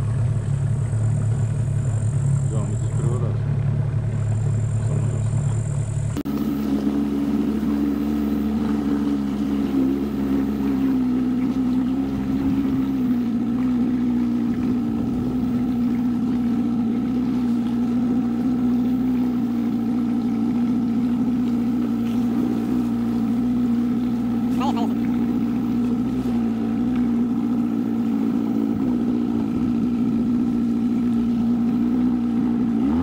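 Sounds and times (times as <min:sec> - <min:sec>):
car running rumble: 0:00.0 - 0:33.0
outboard motor running: 0:00.0 - 0:33.0.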